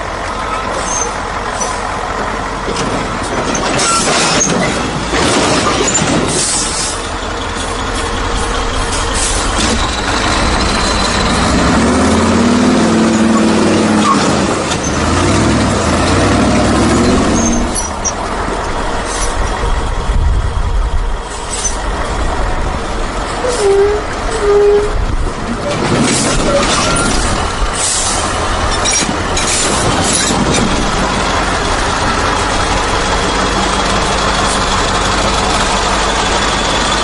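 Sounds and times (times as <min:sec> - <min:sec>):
steady mechanical noise: 0:00.0 - 0:37.0
truck engine revving: 0:00.0 - 0:37.0.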